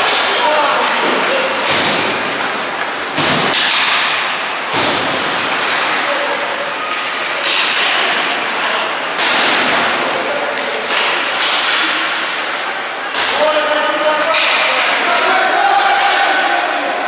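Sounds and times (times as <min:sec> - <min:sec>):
skates scraping on ice: 0:00.0 - 0:17.0
puck and stick thuds: 0:01.0 - 0:16.6.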